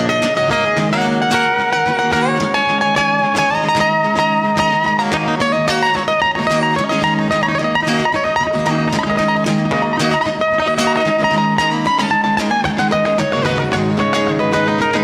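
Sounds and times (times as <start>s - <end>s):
acoustic guitar rhythm strumming: 0.0s - 15.0s
picked acoustic guitar lead: 0.0s - 15.0s.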